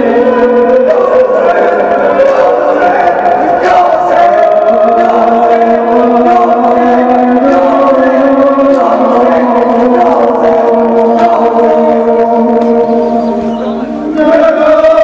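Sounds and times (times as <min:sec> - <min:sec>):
men chanting a mournful lament: 0:00.0 - 0:15.0.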